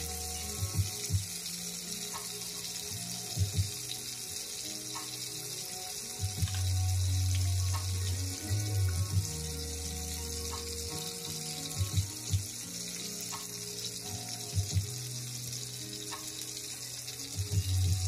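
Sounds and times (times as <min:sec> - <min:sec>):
background music with low notes: 0:00.0 - 0:18.0
food sizzling in frying pan: 0:00.0 - 0:18.0.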